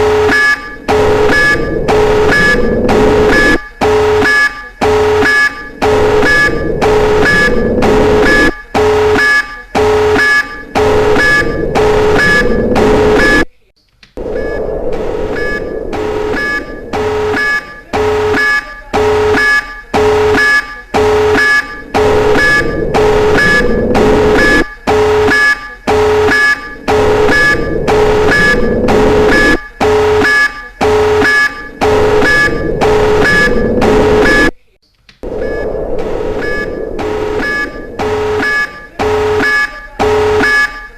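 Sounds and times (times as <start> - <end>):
low rising alarm tone: 0.0 - 13.4, 14.2 - 34.5, 35.2 - 40.8
electronic alarm beeping: 0.0 - 13.5, 14.2 - 34.5, 35.2 - 40.9.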